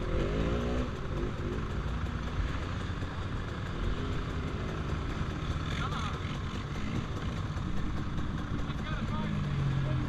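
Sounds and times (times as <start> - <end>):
dirt bike engines idling: 0.0 - 10.0.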